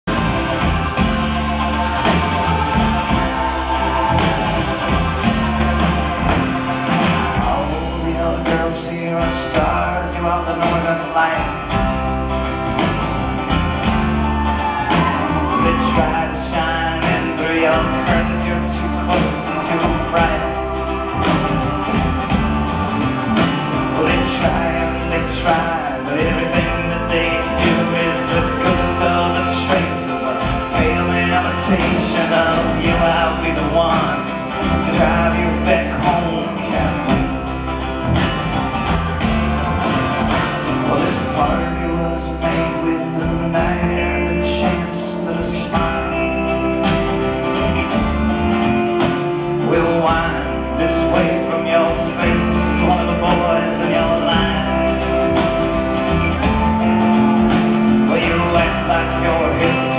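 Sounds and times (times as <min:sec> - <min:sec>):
man singing: 0:00.0 - 0:12.5, 0:14.7 - 0:37.8, 0:40.3 - 0:55.6, 0:56.3 - 0:59.9
acoustic guitar: 0:00.0 - 0:59.9
drums: 0:00.0 - 0:59.9.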